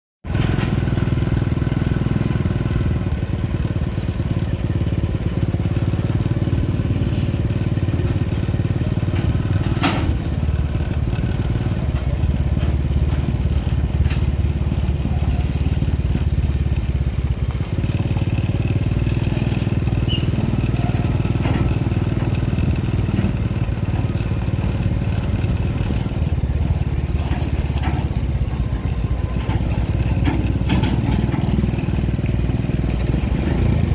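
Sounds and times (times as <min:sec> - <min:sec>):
diesel truck engine rumbling: 0:00.2 - 0:33.9.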